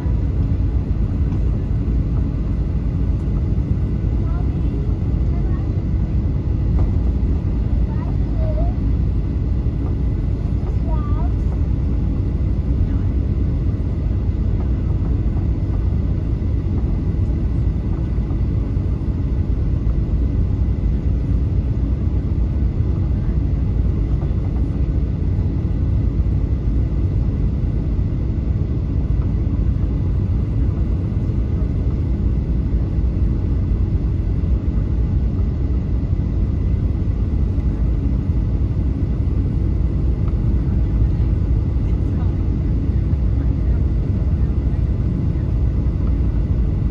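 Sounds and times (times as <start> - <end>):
airplane cabin engine drone: 0.0 - 46.9
faint steady hums: 0.0 - 46.9.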